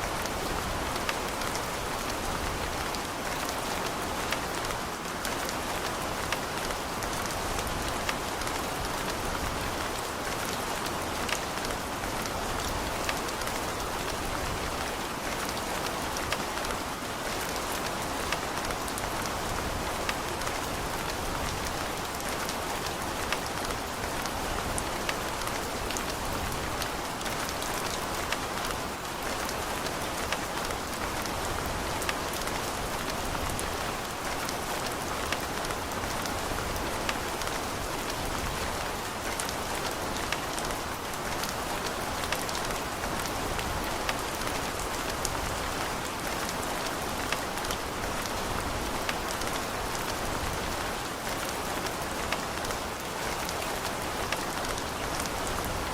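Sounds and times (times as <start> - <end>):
rain on a hard surface: 0.0 - 55.9.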